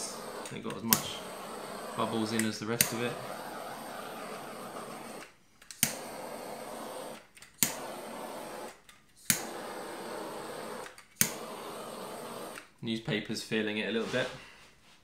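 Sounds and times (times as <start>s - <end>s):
blowtorch flame hissing: 0.0s - 12.7s
blowtorch ignition click: 0.0s - 12.8s.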